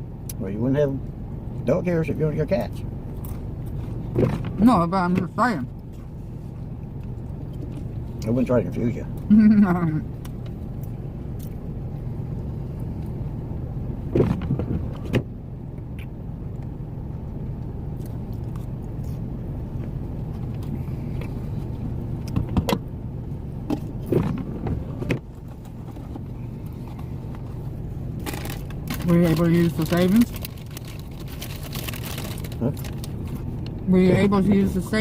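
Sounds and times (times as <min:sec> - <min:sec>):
truck idling: 0:02.4 - 0:35.0.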